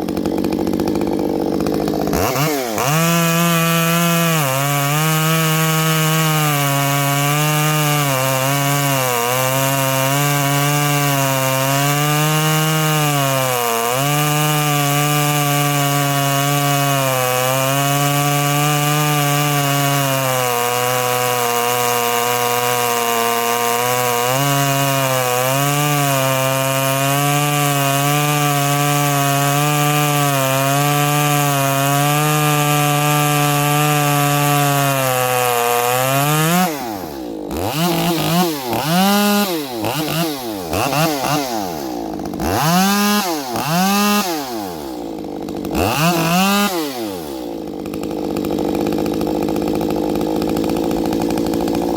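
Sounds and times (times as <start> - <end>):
chainsaw running at high revs: 0.0 - 51.9.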